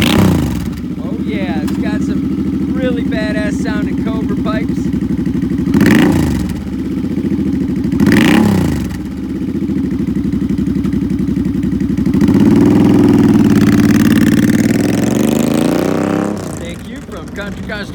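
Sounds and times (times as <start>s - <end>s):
motorcycle engine idling and revving: 0.0s - 17.9s.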